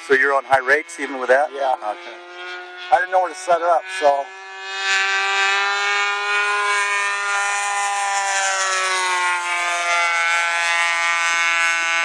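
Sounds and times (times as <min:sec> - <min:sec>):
model plane engine whining: 0:00.0 - 0:12.0.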